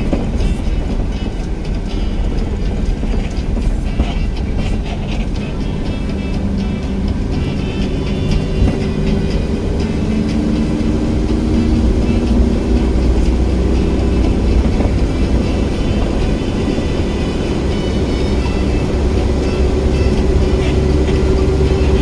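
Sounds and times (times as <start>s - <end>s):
car driving on road: 0.0s - 22.0s.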